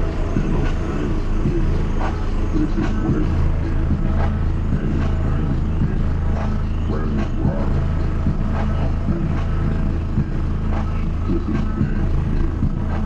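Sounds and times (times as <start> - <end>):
rap music from car subwoofers: 0.0 - 13.0.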